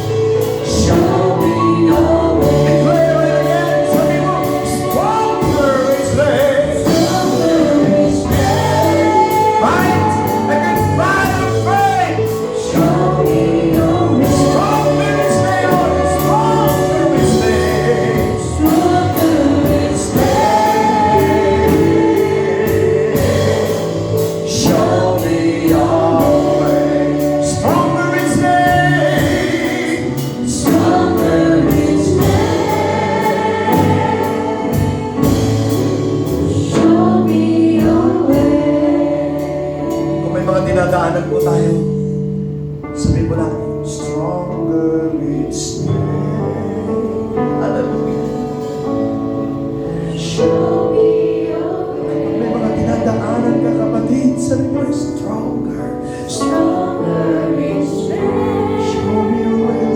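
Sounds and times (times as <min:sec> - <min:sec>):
gospel song with voices singing: 0:00.0 - 0:59.9.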